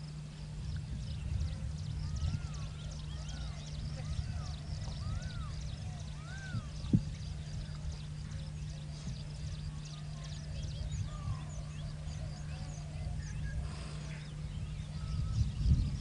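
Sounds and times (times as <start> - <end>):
birds chirping and calling: 0.0 - 16.0
steady low hum: 0.0 - 16.0.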